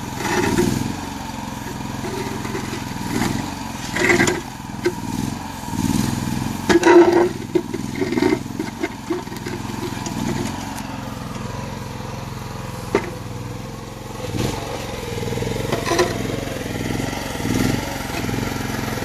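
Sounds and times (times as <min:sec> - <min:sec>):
bucket scraping concrete slabs: 0:00.0 - 0:19.0
excavator engine running: 0:00.0 - 0:19.0.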